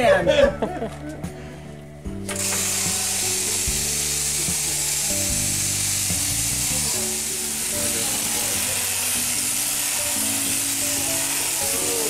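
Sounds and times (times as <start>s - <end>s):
music playing: 0.0s - 12.0s
electric shears buzzing: 2.1s - 12.0s.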